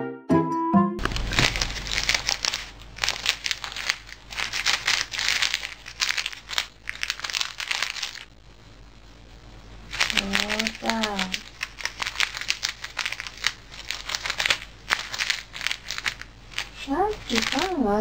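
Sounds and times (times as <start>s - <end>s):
plastic wrapper crinkling: 1.0s - 8.4s, 9.8s - 18.0s.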